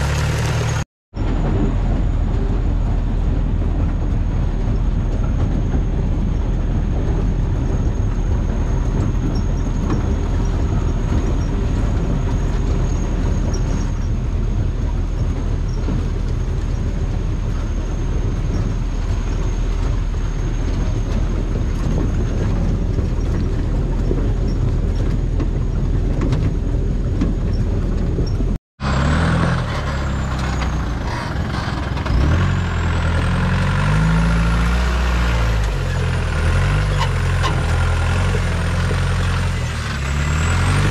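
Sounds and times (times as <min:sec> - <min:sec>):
jeep engine rumbling and revving: 0:00.0 - 0:40.9.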